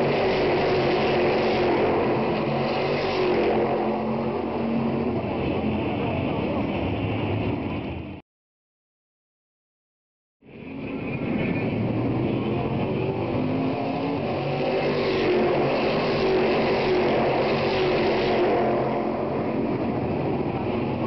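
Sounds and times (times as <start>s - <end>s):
race car engines passing: 0.0s - 8.2s, 10.6s - 21.0s.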